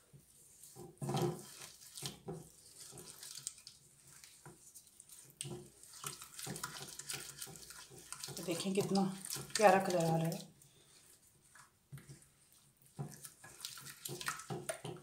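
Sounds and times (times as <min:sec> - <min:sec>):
spatula scraping wet marinade: 0:00.0 - 0:15.0.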